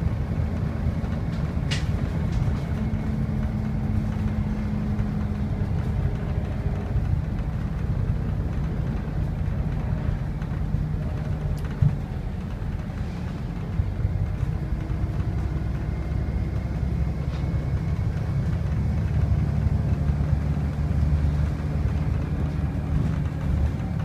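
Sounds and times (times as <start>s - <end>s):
bus engine drone from inside: 0.0s - 24.0s.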